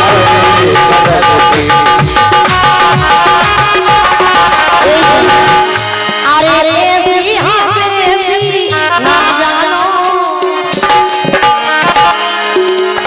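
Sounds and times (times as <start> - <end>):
steady drum beat: 0.0 - 12.8
sustained instrumental notes: 0.0 - 12.9.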